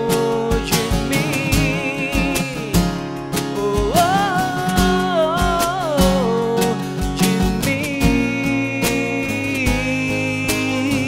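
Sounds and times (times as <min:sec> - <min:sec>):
acoustic guitars strumming: 0:00.0 - 0:11.0
cajon beat thumps: 0:00.0 - 0:11.0.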